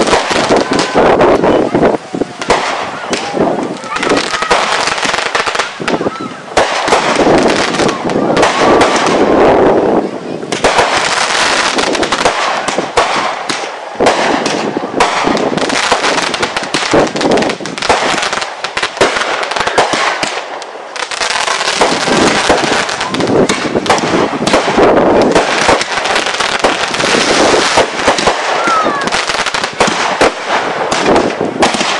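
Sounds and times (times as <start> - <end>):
fireworks crackling and popping: 0.0 - 31.9.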